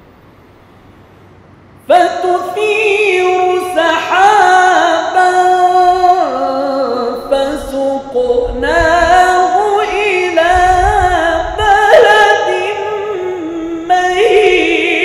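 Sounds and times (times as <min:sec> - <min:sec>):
man chanting melismatic recitation: 0:01.9 - 0:15.0.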